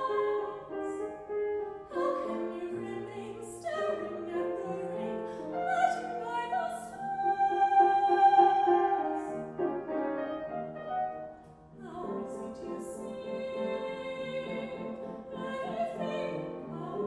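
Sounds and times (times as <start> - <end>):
woman singing operatically: 0.0 - 1.0, 1.9 - 9.3, 11.8 - 17.0.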